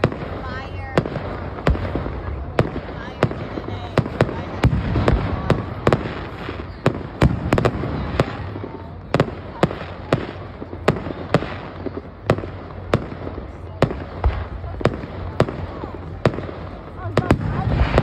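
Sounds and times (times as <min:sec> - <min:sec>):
fireworks cracking: 0:00.0 - 0:18.0.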